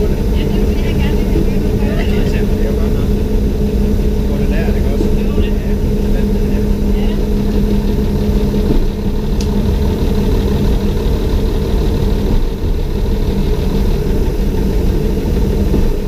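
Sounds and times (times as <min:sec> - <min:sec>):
railbus diesel engine drone: 0:00.0 - 0:16.0.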